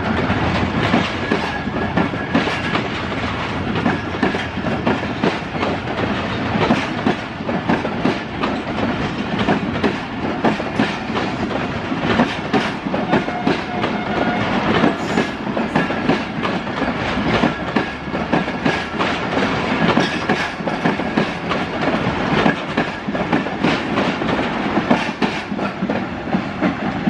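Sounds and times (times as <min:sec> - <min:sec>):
train rumble: 0:00.0 - 0:27.0
train wheels clattering: 0:00.0 - 0:27.0.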